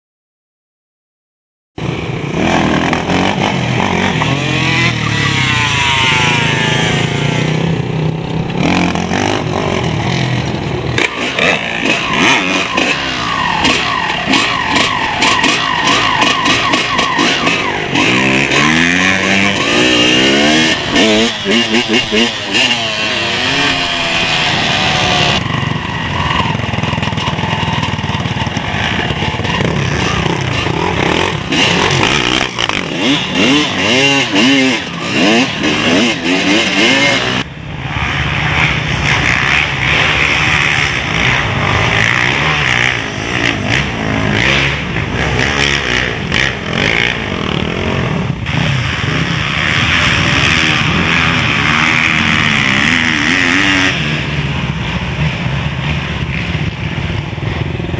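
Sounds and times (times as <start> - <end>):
motorcycle engines revving: 1.8 - 57.9.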